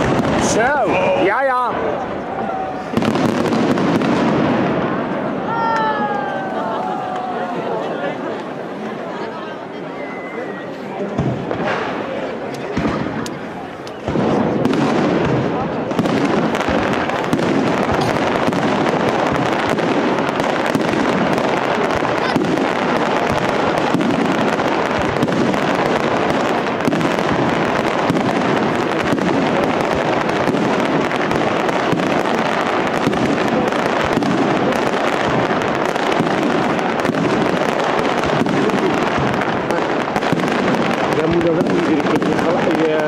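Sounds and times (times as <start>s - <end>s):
fireworks bursting: 0.0s - 43.0s.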